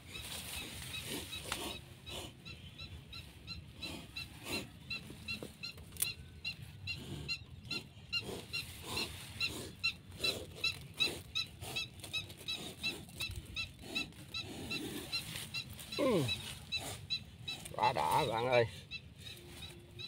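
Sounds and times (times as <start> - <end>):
lower animal calls: 0.1 - 20.0.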